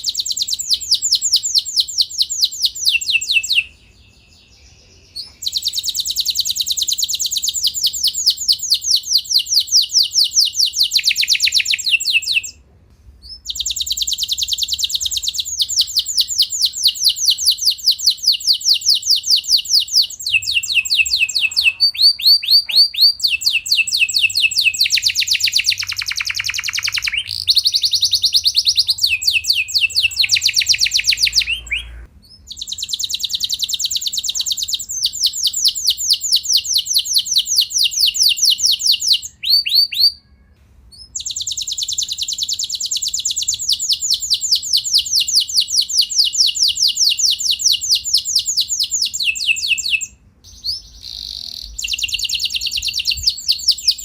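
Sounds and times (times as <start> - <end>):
canary singing rolling trills: 0.0 - 12.6, 13.2 - 54.0.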